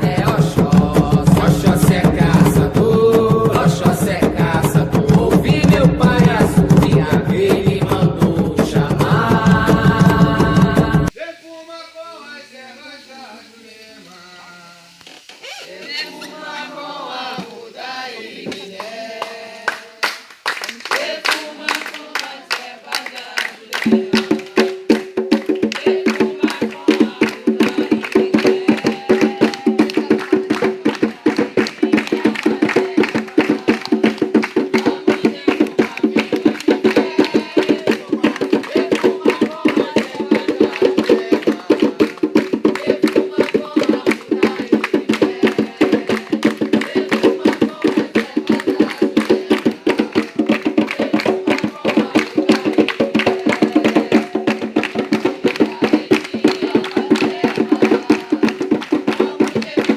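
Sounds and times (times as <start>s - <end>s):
hand drums playing fast rhythm: 0.0s - 11.2s, 17.4s - 19.8s, 20.8s - 59.9s.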